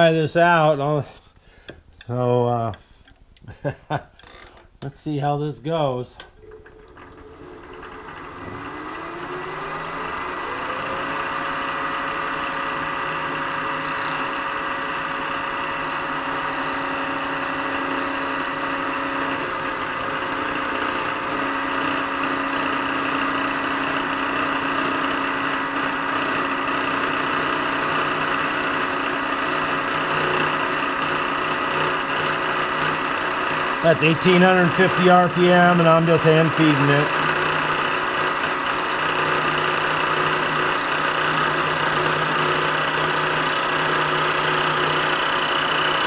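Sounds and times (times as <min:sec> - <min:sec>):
milling machine spindle whine: 0:06.2 - 0:46.0
cutter cutting brass: 0:06.9 - 0:46.0.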